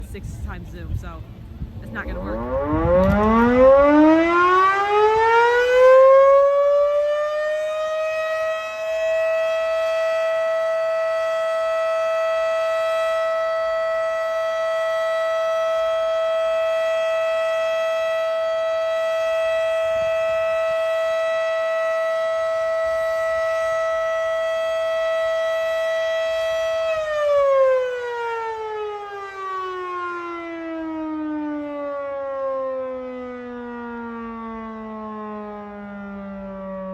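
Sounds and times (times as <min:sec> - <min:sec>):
civil defense siren: 0:01.2 - 0:36.9.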